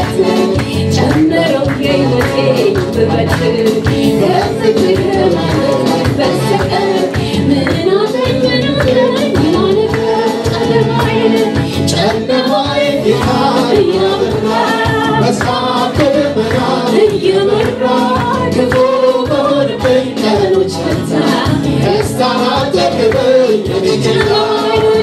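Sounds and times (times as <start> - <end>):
amplified accompaniment with beat: 0.0 - 25.0
group singing gospel song: 0.0 - 25.0.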